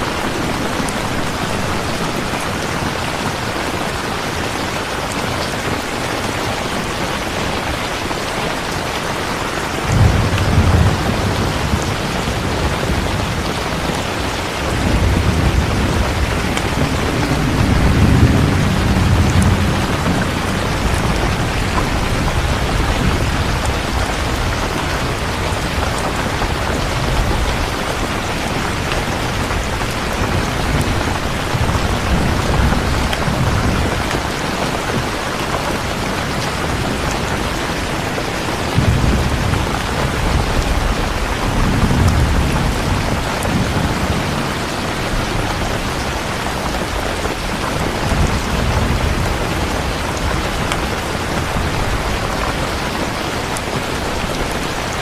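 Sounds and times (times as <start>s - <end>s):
steady rain falling: 0.0s - 55.0s
thunder rumbling: 0.0s - 55.0s.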